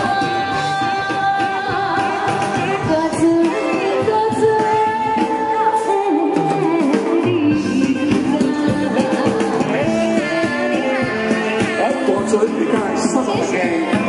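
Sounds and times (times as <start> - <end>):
instrumental accompaniment: 0.0 - 14.0
person singing pop song: 0.0 - 14.0.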